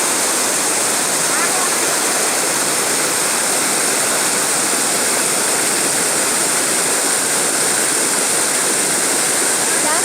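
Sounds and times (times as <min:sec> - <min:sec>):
rushing water: 0:00.0 - 0:10.0.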